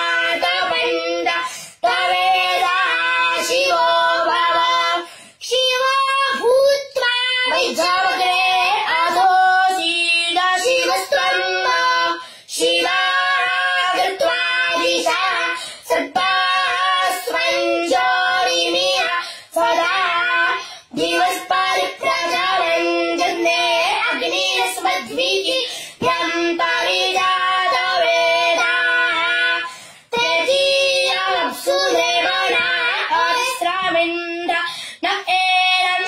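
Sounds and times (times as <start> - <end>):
boy chanting: 0.0 - 36.0.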